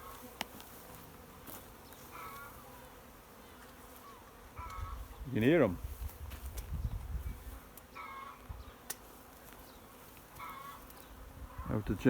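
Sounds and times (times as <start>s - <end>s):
swarm of bees buzzing: 0.0s - 12.0s.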